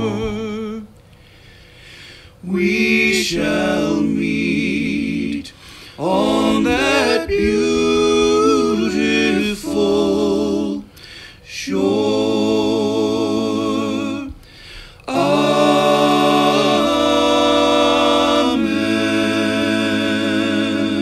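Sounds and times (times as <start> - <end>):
male a cappella harmony singing: 0.0 - 1.0, 2.3 - 21.0.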